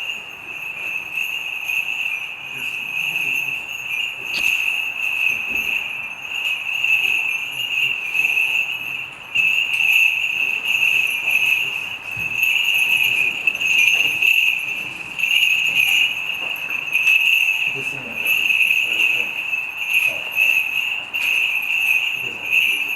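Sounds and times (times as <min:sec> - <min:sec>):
small bells jingling: 0:00.0 - 0:22.9.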